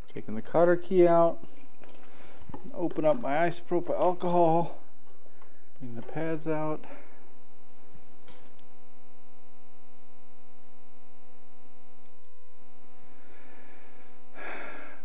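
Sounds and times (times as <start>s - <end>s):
buzzy electrical hum: 0.0s - 15.0s.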